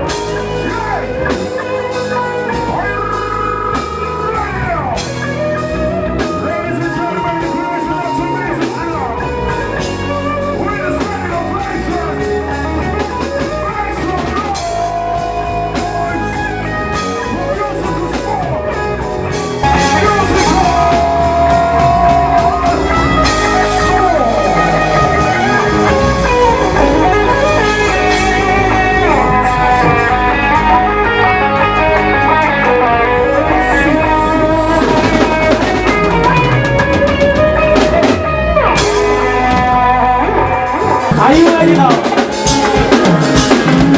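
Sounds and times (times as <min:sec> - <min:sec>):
drums: 0:00.0 - 0:43.9
guitar: 0:00.0 - 0:43.9
loud music over sound system: 0:00.0 - 0:43.9
person singing: 0:00.0 - 0:43.9.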